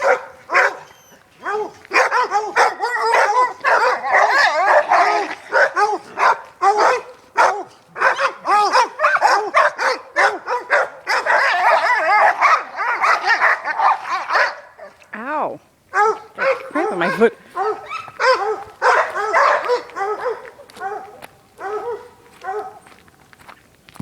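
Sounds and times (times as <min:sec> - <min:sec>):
hounds baying: 0:00.0 - 0:15.0, 0:15.9 - 0:23.0.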